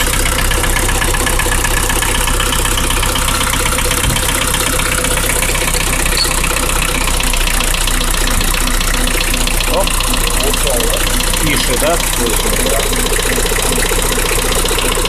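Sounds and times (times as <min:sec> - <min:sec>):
diesel engine idling: 0:00.0 - 0:15.0
rhythmic engine knock: 0:00.0 - 0:15.0.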